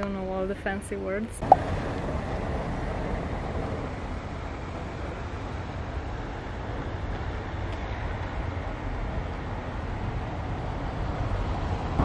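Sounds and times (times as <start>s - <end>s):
rushing noise with low rumble: 0.2s - 12.0s.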